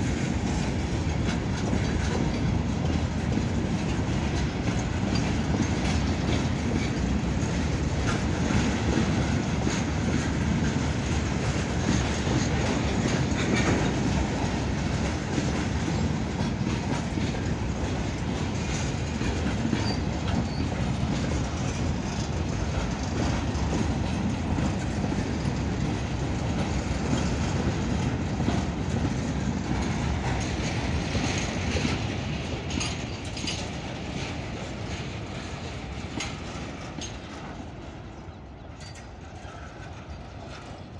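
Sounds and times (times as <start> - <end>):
freight train wheels rumbling: 0.0 - 40.9
wheels clacking over rail joints: 0.0 - 40.9.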